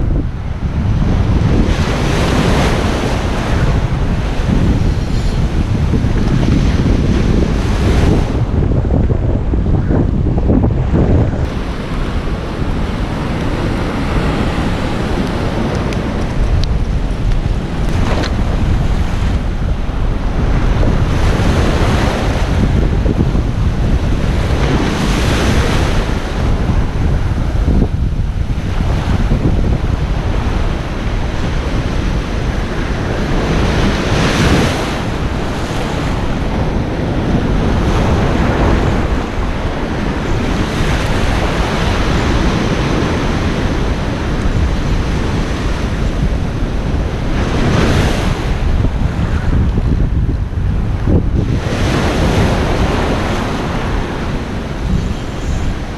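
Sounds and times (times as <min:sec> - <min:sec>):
ocean surf breaking: 0:00.0 - 0:55.9
wind rumbling on microphone: 0:00.0 - 0:55.9.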